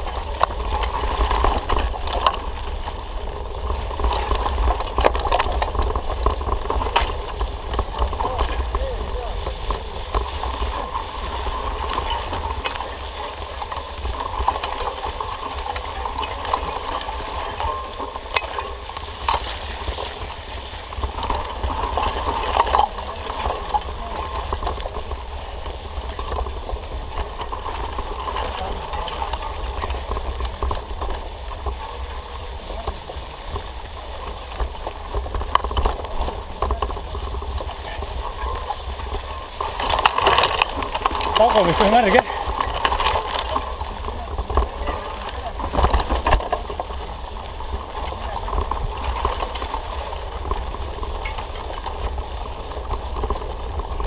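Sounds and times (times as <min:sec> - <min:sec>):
bike clicks and rattles: 0:00.0 - 0:54.0
bike tyres on rough trail: 0:00.0 - 0:54.0
low wind rumble: 0:00.0 - 0:54.0.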